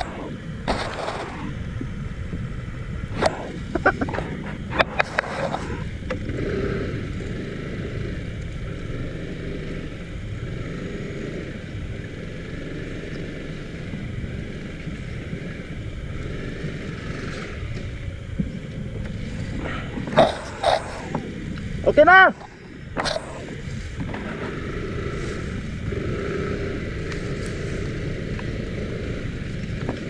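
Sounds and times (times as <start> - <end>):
motor scooter engine rumble: 0.0 - 30.0.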